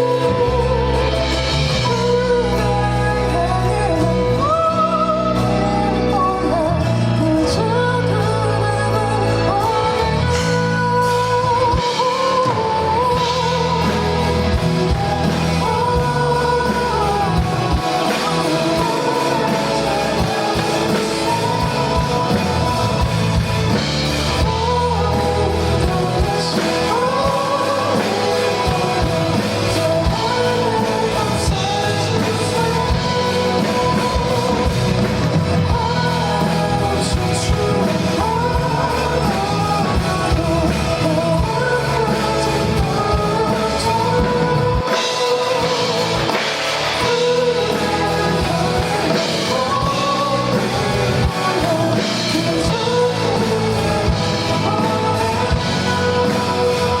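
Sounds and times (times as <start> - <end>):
band with bass and guitar: 0.0 - 57.0
man singing: 0.0 - 57.0.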